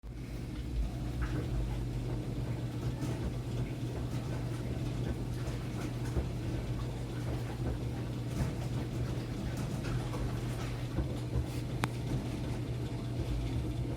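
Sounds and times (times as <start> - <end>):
washing machine motor hum: 0.0 - 13.9.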